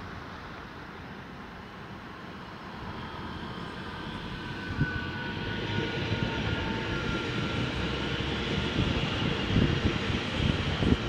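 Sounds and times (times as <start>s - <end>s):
thin train whine: 0.0s - 11.0s
train wheel rumble: 0.0s - 11.0s.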